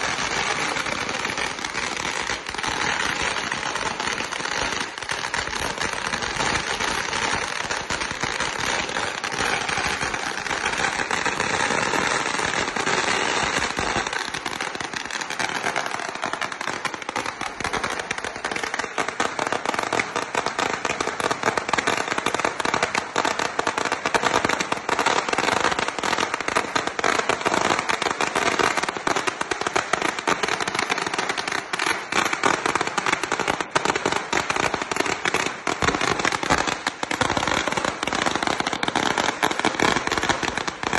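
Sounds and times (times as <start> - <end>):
firecrackers crackling and popping: 0.0 - 40.9.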